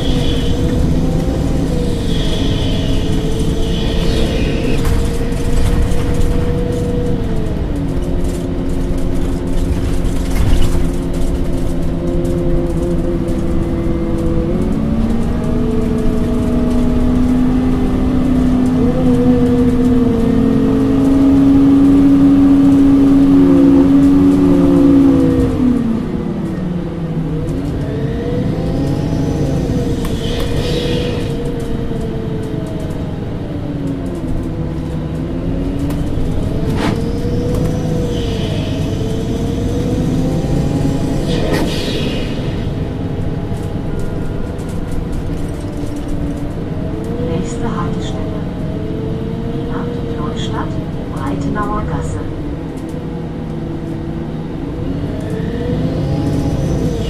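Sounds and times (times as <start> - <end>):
bus engine whine: 0.0 - 57.0.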